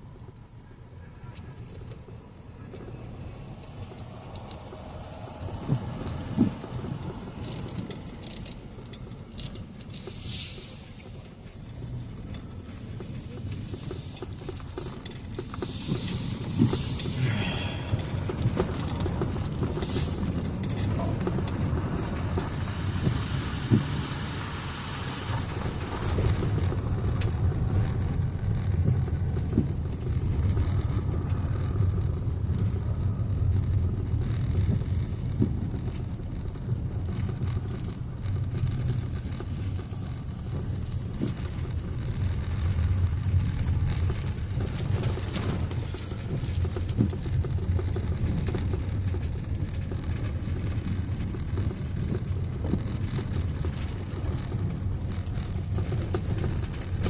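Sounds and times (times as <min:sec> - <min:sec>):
vehicle rumble: 0:00.0 - 0:57.0
wind noise: 0:01.6 - 0:57.0.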